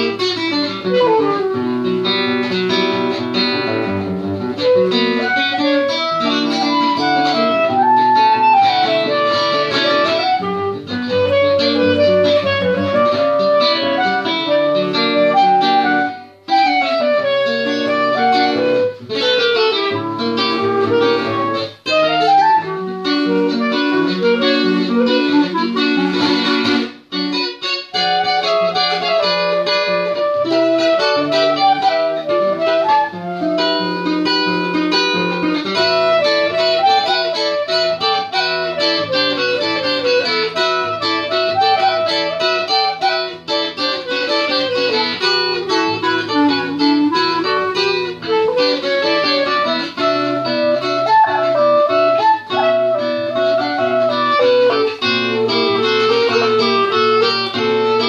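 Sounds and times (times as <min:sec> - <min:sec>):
clarinet melody: 0:00.0 - 0:58.0
plucked acoustic guitar: 0:00.0 - 0:58.0.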